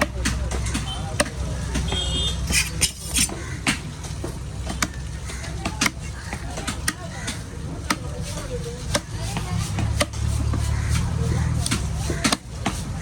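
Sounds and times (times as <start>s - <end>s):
knife chopping on wooden block: 0.0s - 12.9s
low hum of market: 0.0s - 13.0s.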